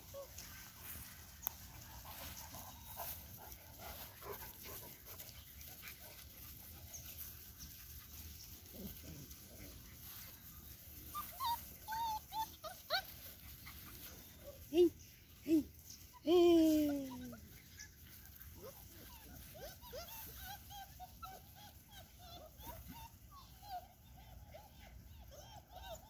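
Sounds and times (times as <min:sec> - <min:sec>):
puppies whimpering and yipping: 0:00.0 - 0:04.1, 0:06.2 - 0:14.7, 0:15.7 - 0:26.0.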